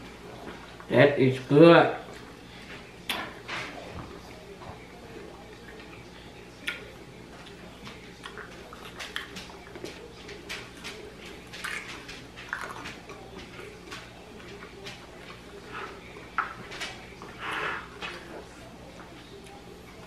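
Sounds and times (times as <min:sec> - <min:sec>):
chewing salad: 0:02.0 - 0:20.0.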